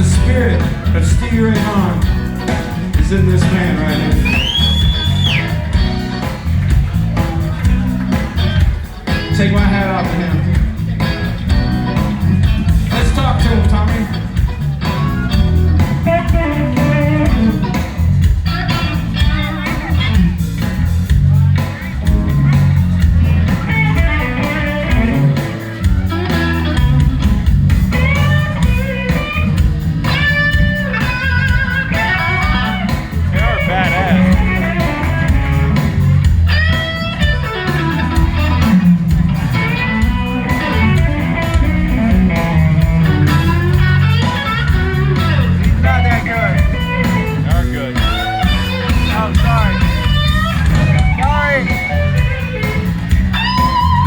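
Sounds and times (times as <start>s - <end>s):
bass line: 0.0s - 54.0s
drums: 0.0s - 54.0s
electric guitar: 0.0s - 54.0s
live blues band playing: 0.0s - 54.0s.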